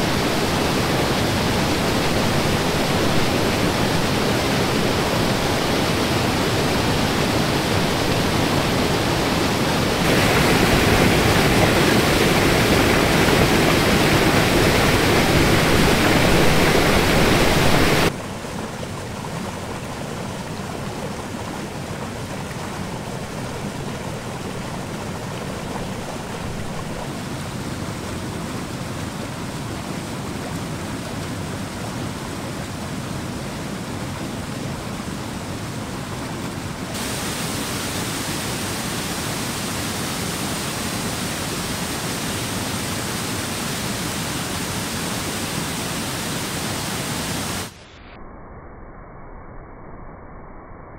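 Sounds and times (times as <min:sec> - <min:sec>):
rushing white water: 0:00.0 - 0:47.8.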